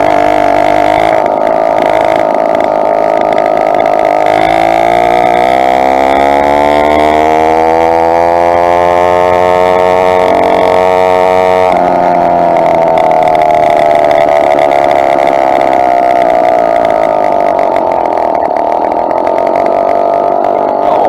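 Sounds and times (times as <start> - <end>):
two-stroke engine buzzing: 0.0 - 21.0.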